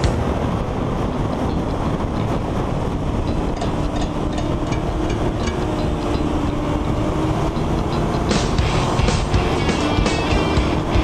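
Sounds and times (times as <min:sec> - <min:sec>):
motorcycle engine running: 0:00.0 - 0:11.0
wind noise: 0:00.0 - 0:11.0.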